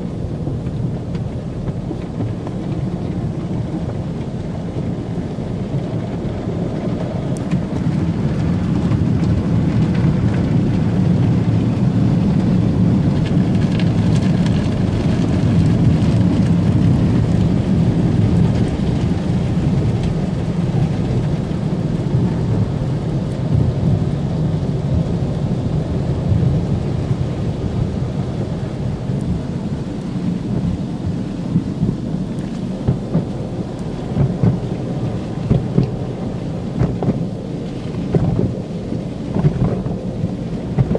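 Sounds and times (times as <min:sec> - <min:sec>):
car wash jets and brushes rumbling: 0:00.0 - 0:40.9.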